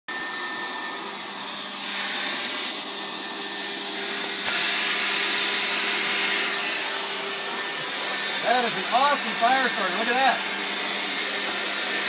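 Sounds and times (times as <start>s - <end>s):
electric leaf blower whooshing: 0.1s - 12.0s.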